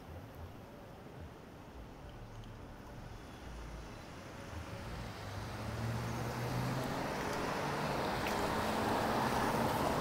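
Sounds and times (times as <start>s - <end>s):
tyre noise of passing traffic: 0.0s - 10.0s.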